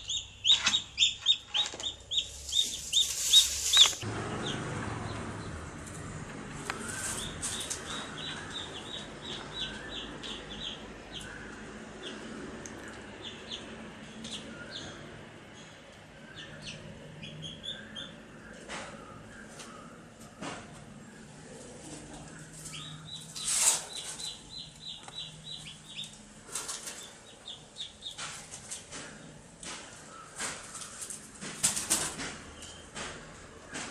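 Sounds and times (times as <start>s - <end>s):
baby chicks peeping: 0.0s - 33.1s.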